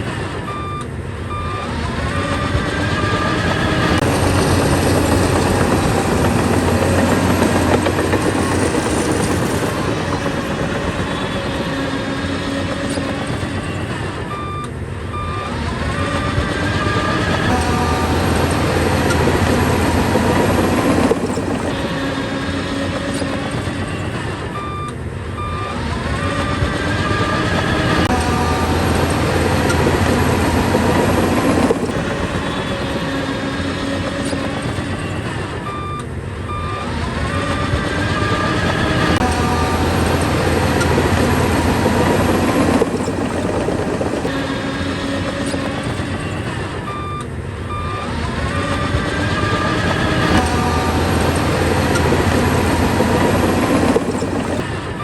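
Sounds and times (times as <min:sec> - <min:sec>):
bulldozer diesel engine: 0:00.0 - 0:55.0
reversing alarm beeping: 0:00.0 - 0:55.0.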